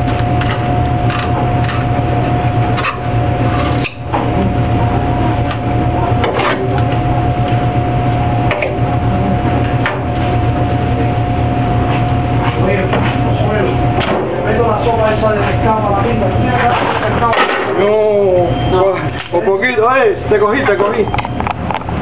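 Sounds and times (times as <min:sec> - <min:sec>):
machine hum with whine: 0:00.0 - 0:22.0.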